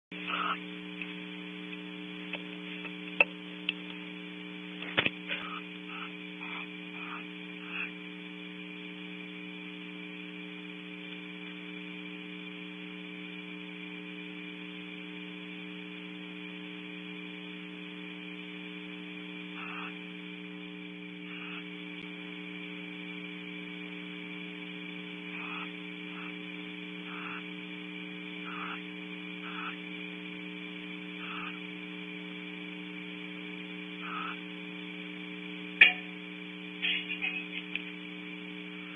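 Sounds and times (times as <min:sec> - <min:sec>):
electrical hum: 0:00.1 - 0:38.9.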